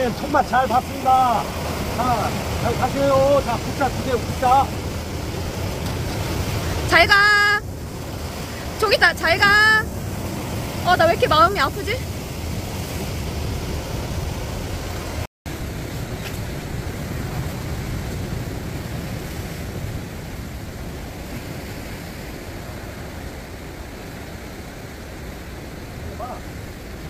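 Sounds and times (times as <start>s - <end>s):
surf washing over rocks: 0.0s - 27.0s.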